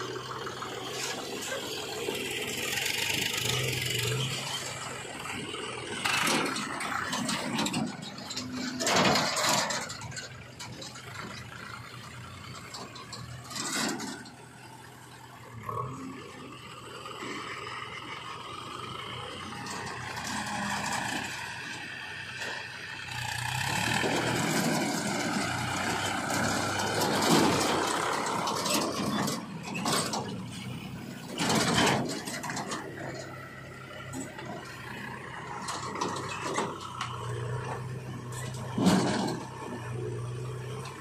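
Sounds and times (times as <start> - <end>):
diesel engines running: 0.0 - 41.0.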